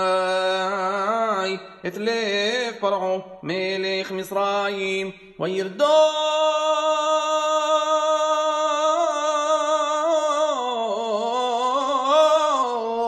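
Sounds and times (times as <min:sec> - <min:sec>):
solo voice chanting: 0:00.0 - 0:13.0.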